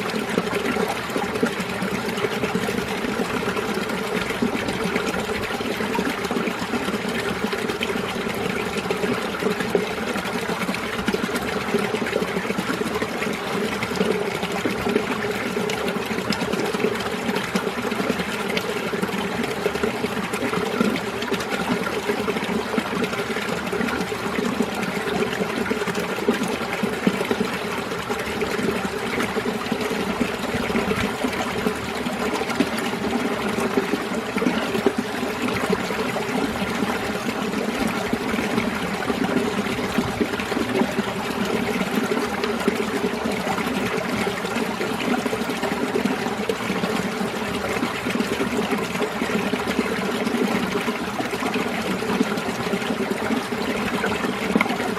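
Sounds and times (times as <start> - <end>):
stream flowing and trickling: 0.0 - 54.9.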